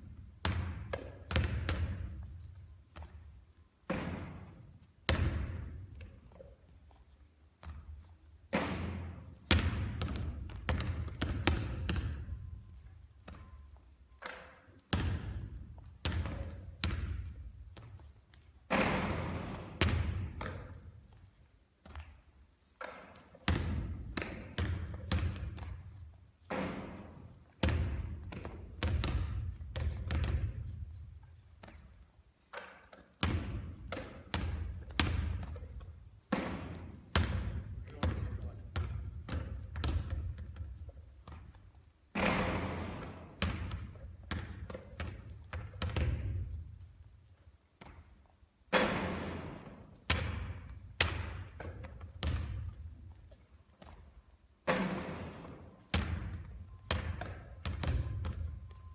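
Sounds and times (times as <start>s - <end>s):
basketball bouncing: 0.0s - 7.0s, 7.6s - 47.0s, 47.8s - 58.9s.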